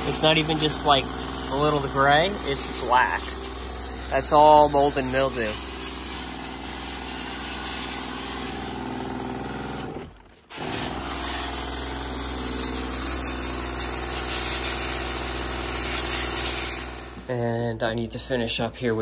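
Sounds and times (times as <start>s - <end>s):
water spray hissing: 0.0s - 9.6s, 11.1s - 17.3s
pressure washer motor hum: 0.0s - 17.3s.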